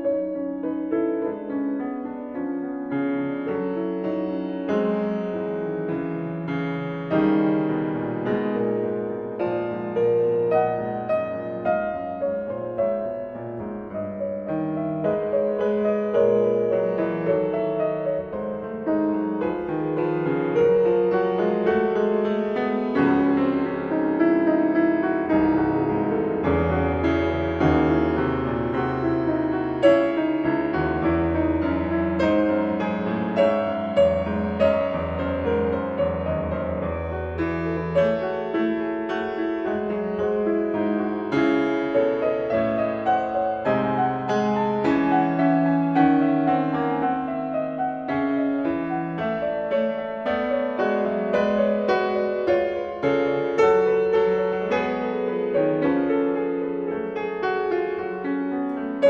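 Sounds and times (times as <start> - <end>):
background piano music: 0.0 - 59.0.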